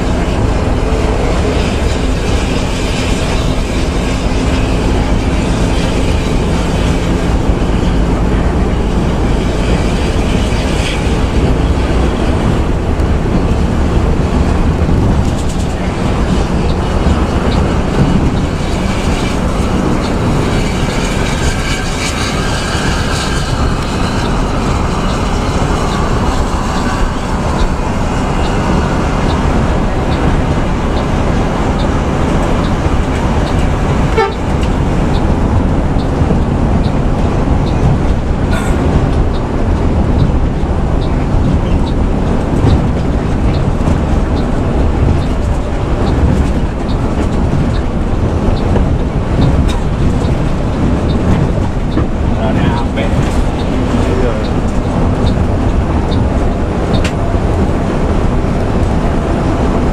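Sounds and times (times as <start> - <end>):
bus diesel engine drone: 0.0 - 59.9
tyres on road: 0.0 - 59.9.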